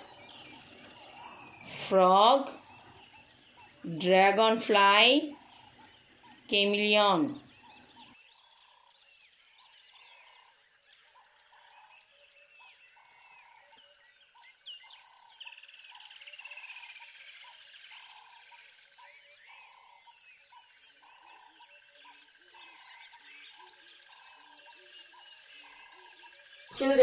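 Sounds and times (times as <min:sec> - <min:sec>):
birds chirping: 0:00.0 - 0:27.0
frogs croaking: 0:00.0 - 0:27.0.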